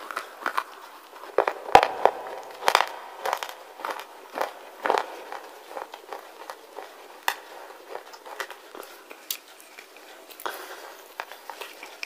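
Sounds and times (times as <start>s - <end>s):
slate crunching as chewed: 0.0s - 12.0s.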